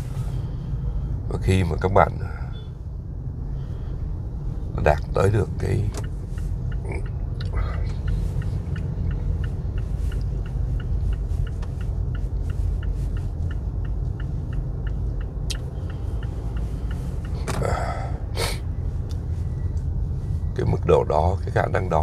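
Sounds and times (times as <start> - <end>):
steady low rumble: 0.0 - 22.0
faint regular ticking: 0.1 - 18.3.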